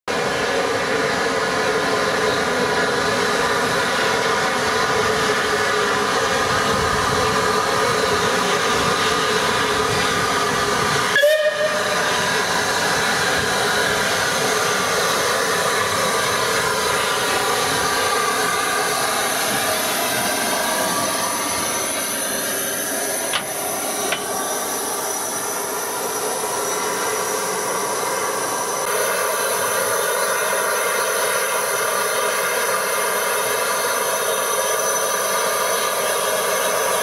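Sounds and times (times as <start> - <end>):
steam locomotive hissing steam: 0.1 - 37.0.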